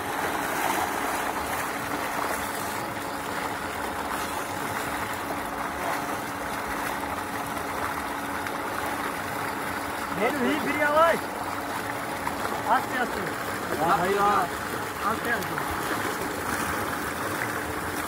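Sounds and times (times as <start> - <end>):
water gushing into tank: 0.0 - 18.0.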